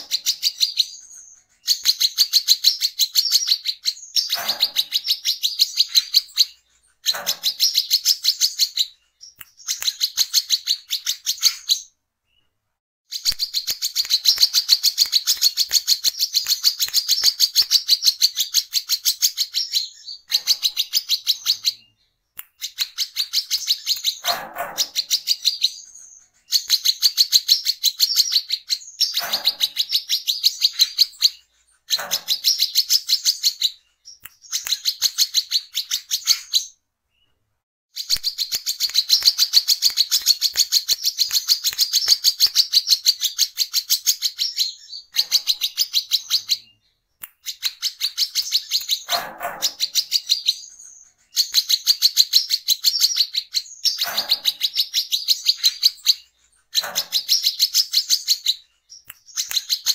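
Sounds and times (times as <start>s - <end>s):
bird singing fast chattering song: 0.0s - 12.0s, 13.1s - 36.8s, 38.0s - 59.9s.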